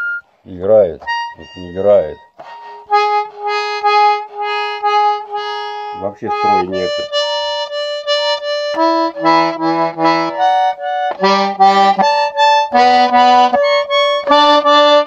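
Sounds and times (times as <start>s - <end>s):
out of tune button accordion: 1.0s - 15.0s.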